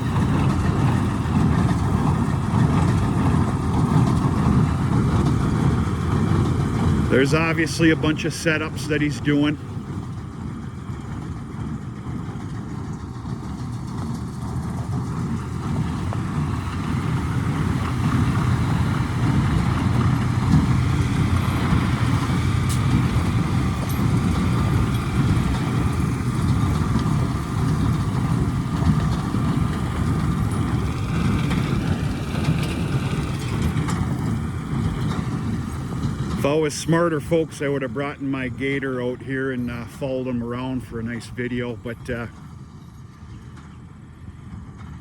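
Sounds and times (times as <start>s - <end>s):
tractor and baler drone: 0.0s - 45.0s.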